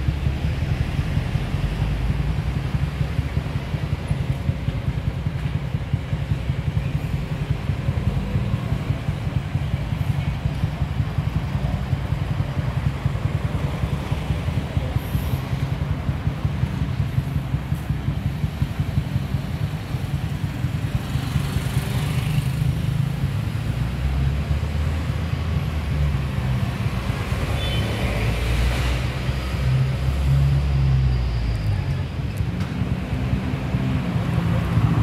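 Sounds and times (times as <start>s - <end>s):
low traffic rumble: 0.0s - 35.0s
vehicle engines passing: 0.0s - 35.0s.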